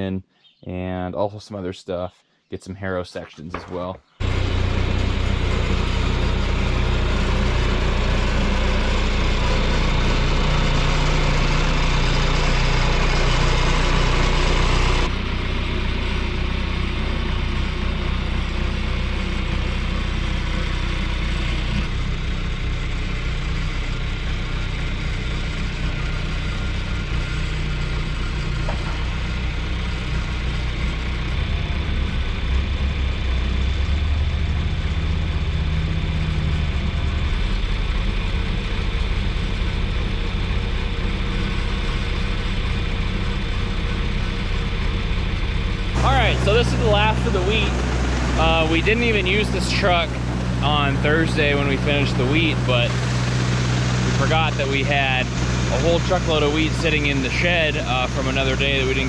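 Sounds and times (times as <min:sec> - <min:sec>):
farm machinery engine running: 0:04.2 - 0:59.0.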